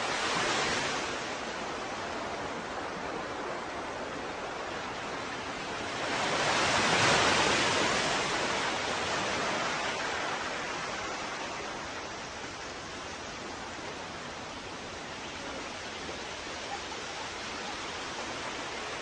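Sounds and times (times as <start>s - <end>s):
surf hiss: 0.0s - 19.0s.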